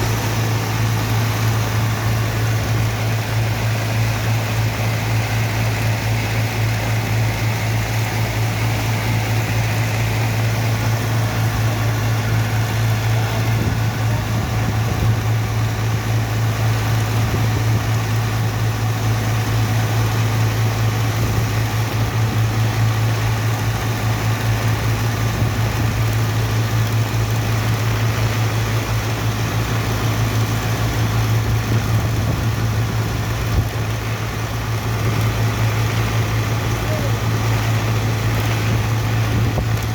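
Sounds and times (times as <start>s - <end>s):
heavy engine droning: 0.0s - 39.9s.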